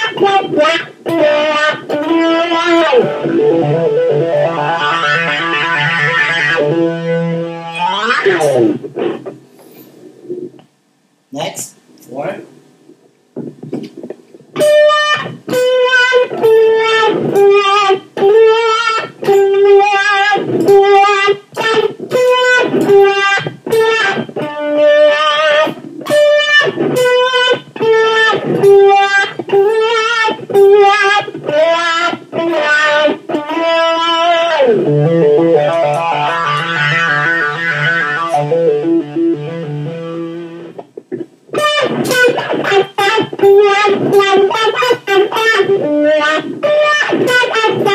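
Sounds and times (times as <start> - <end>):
electric guitar with wah: 0.0 - 10.6, 13.3 - 47.9.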